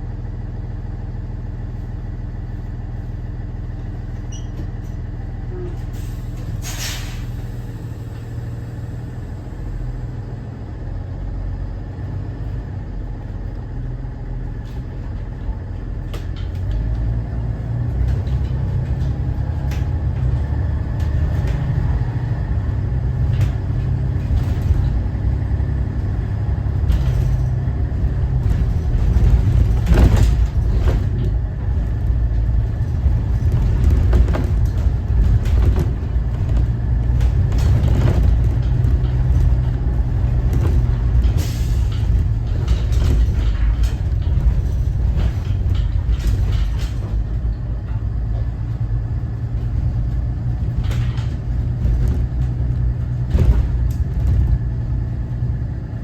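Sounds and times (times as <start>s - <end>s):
bus body rattles: 0.0s - 56.0s
diesel bus engine rumble: 0.0s - 56.0s.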